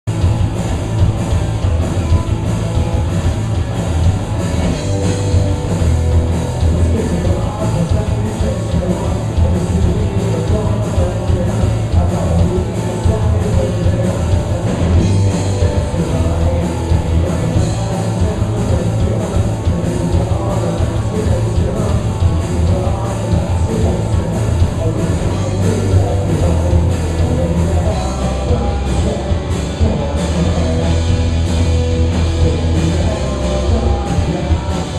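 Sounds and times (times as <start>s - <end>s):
rock band playing live: 0.0s - 34.9s.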